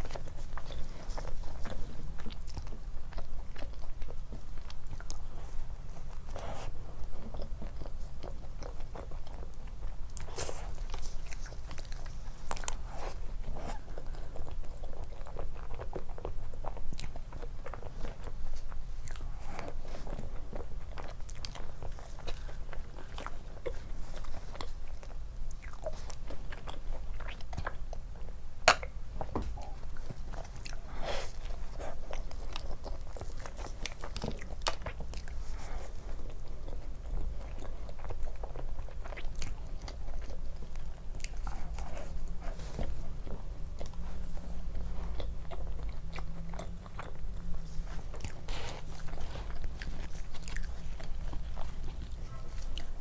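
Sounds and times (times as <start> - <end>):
person chewing soft food: 0.0 - 53.0.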